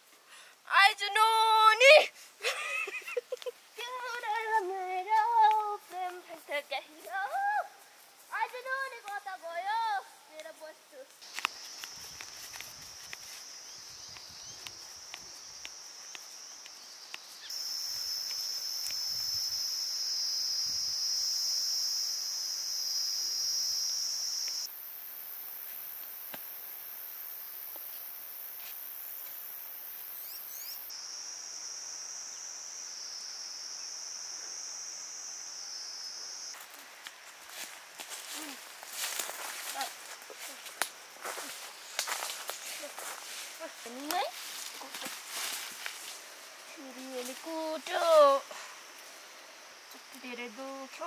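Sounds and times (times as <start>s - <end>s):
insect chorus chirring: 0.3s - 51.0s.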